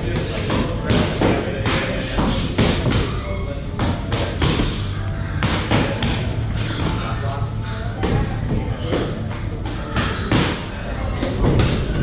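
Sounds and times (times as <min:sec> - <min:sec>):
gym background music: 0:00.0 - 0:12.0.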